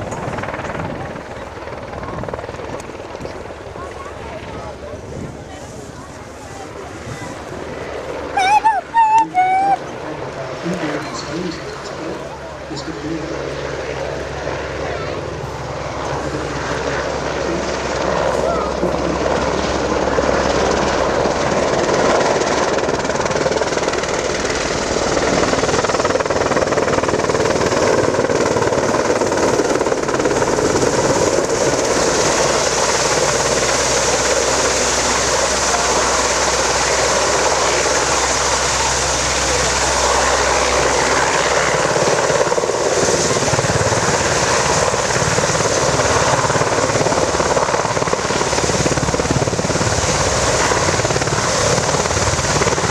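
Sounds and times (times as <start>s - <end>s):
helicopter rotor and turbines: 0.0s - 52.9s.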